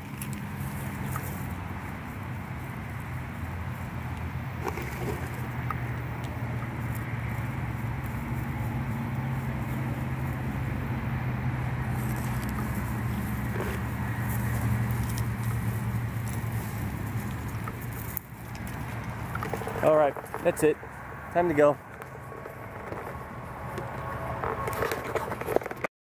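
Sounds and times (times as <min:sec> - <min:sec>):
dry grass rustling: 0:00.0 - 0:25.9
low motor hum: 0:00.0 - 0:25.9.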